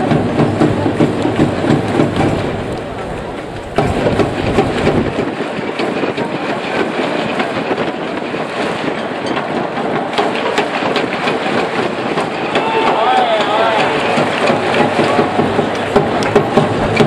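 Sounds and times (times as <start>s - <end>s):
ballpark crowd noise: 0.0s - 17.0s
wind buffeting microphone: 0.0s - 17.0s.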